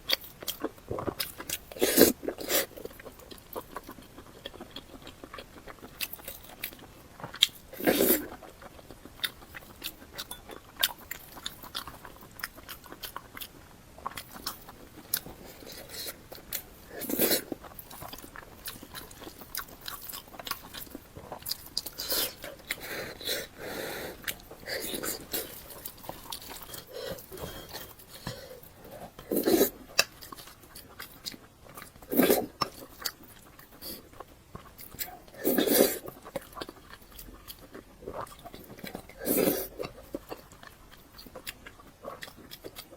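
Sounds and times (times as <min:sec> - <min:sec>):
chewing with crisp crunches: 0:00.0 - 0:42.9.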